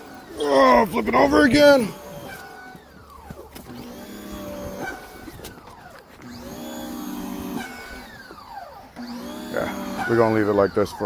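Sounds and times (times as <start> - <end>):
pressure washer motor spinning: 0.0 - 11.0.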